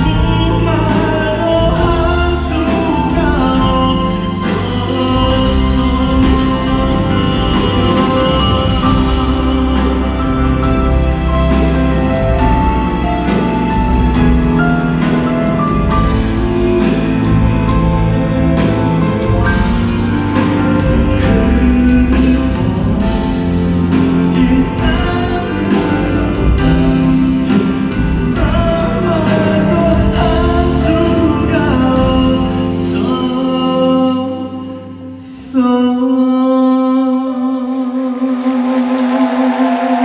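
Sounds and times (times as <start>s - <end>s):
live band music: 0.0s - 34.1s
person singing: 0.0s - 40.0s.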